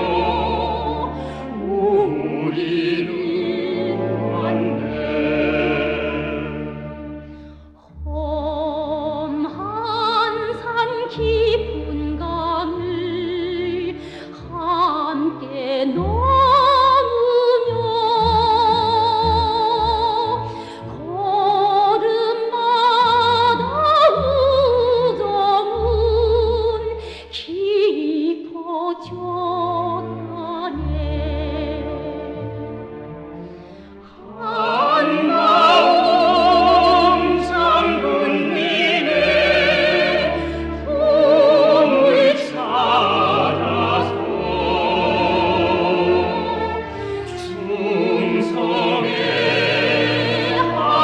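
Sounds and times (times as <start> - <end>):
operatic singing: 0.0 - 32.4, 33.9 - 51.0.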